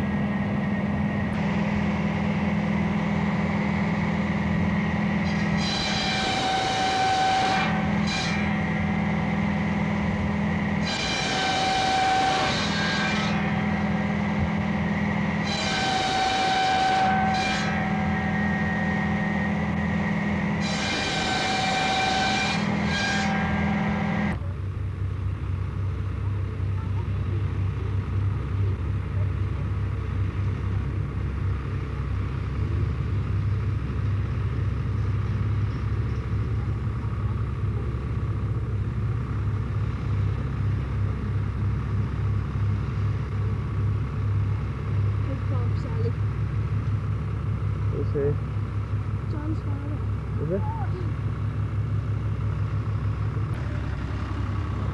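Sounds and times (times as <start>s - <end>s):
log-cutting machine whining: 0.0s - 24.4s, 26.2s - 54.9s
tractor diesel engine throbbing: 0.0s - 54.9s.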